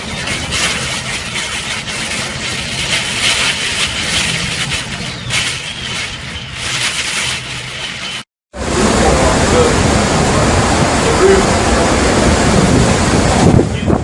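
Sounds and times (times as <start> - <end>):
wind and driving rain roaring: 0.0 - 14.0.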